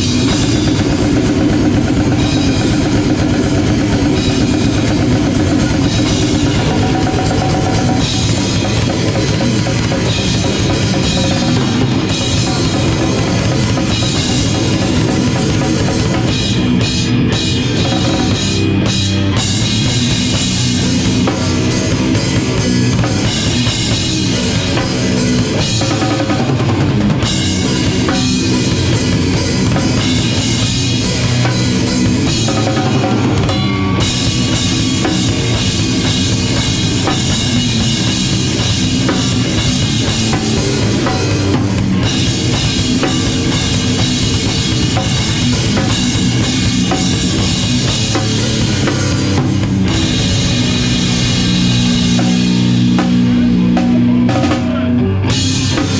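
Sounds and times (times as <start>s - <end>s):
drum kit bass drum and snare: 0.0s - 55.9s
rock band playing live: 0.0s - 55.9s.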